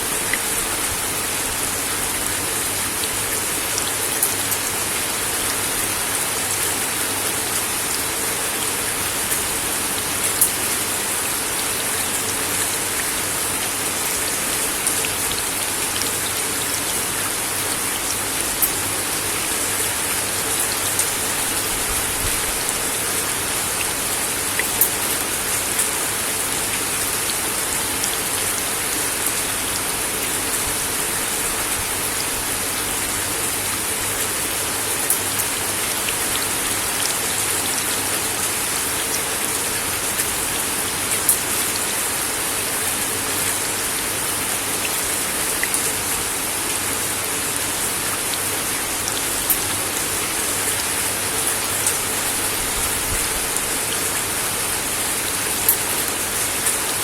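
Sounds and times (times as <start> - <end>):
rain on a wooden deck: 0.0 - 57.0.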